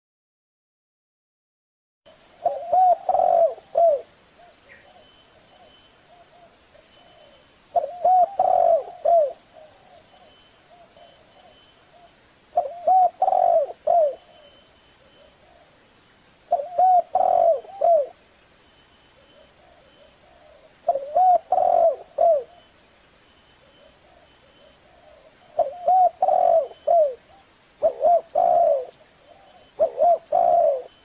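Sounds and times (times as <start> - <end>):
dove cooing: 2.4 - 15.8, 16.5 - 18.2, 19.2 - 22.7, 23.6 - 31.0.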